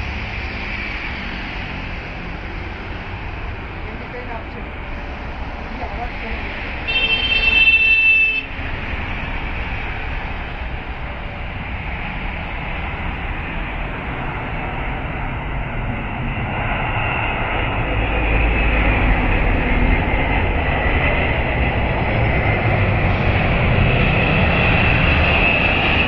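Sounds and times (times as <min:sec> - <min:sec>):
high jet whine: 0:00.0 - 0:26.0
jet engine rumble: 0:00.0 - 0:26.0.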